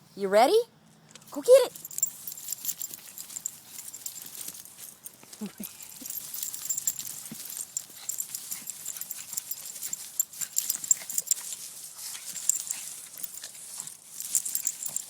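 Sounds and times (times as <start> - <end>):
dog claws scrabbling: 1.7 - 11.6, 12.2 - 15.0.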